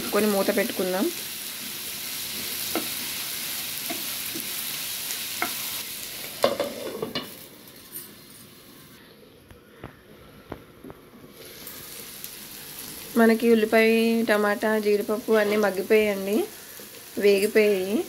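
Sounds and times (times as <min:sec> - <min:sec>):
food sizzling in oil: 0:00.0 - 0:09.0, 0:11.3 - 0:18.0.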